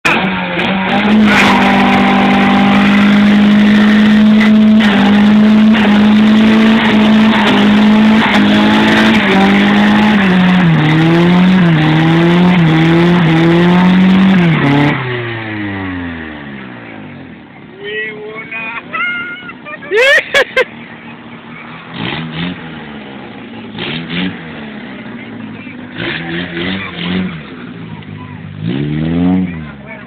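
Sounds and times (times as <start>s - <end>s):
car engine revving high: 0.1s - 17.4s, 21.1s - 30.0s.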